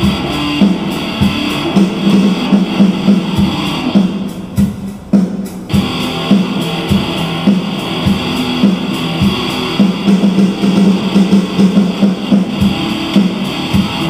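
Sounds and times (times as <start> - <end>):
guitar background music: 0.0 - 14.0.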